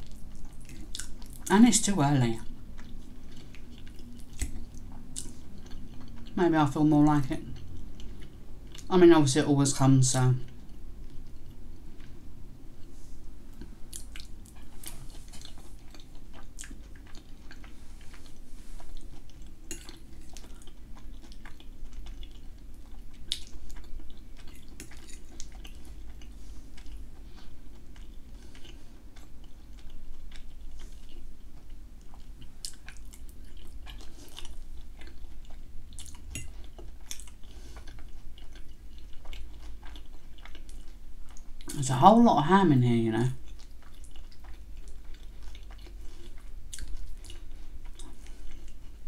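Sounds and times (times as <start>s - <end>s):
close chewing: 0.0s - 6.4s, 13.5s - 41.8s, 43.4s - 49.0s.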